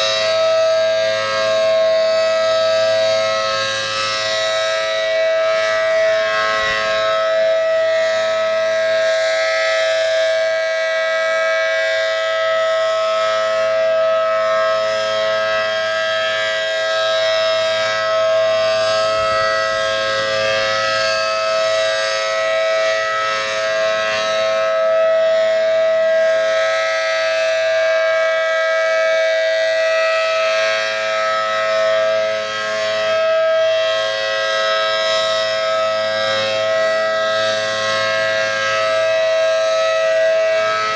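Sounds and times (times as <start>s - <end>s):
siren wailing: 0.0s - 40.9s.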